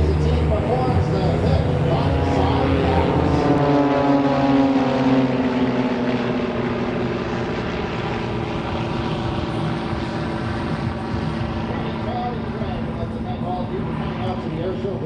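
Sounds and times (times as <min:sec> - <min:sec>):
propeller planes flying past: 0:00.0 - 0:15.0.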